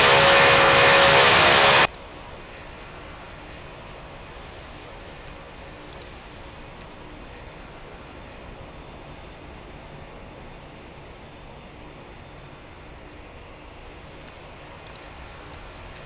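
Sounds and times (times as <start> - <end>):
distant jet engines rumble: 0.0 - 16.0.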